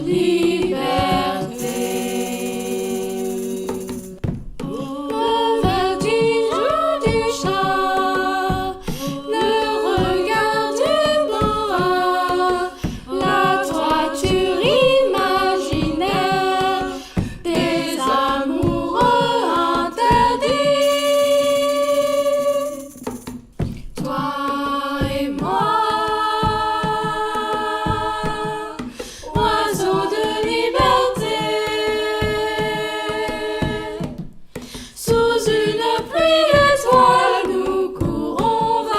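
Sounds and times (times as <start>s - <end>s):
a cappella group singing in harmony: 0.0s - 23.4s, 24.0s - 38.9s.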